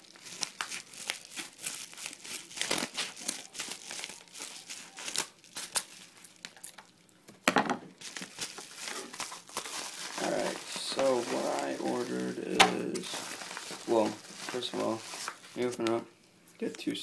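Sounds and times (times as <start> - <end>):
packaging crinkling and tearing: 0.0 - 7.1, 8.0 - 16.0.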